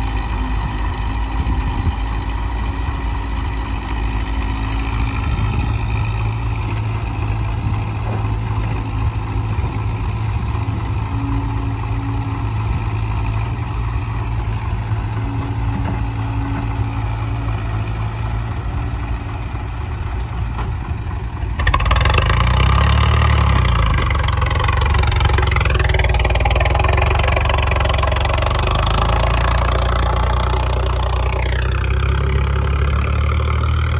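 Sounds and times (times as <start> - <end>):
engine revving: 0.0 - 20.7, 21.6 - 33.9
diesel engine running: 0.0 - 33.9.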